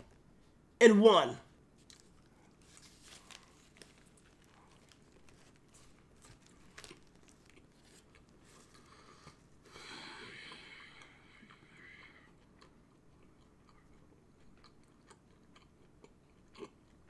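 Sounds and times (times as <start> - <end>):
chewing crunches: 1.8 - 9.5, 10.4 - 17.0.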